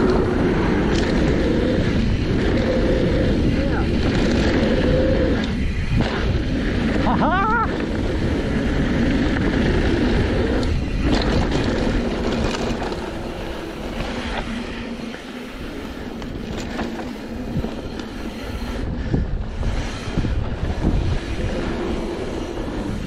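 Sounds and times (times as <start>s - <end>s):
bike rattling and knocking: 0.0s - 23.0s
tyres running over dirt: 0.0s - 23.0s
wind rumbling on microphone: 0.0s - 23.0s.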